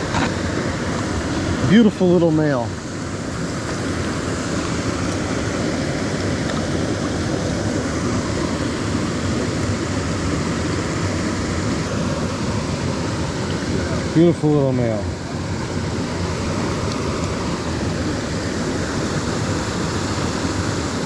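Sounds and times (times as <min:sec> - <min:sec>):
stream water pouring over rocks: 0:00.0 - 0:21.0.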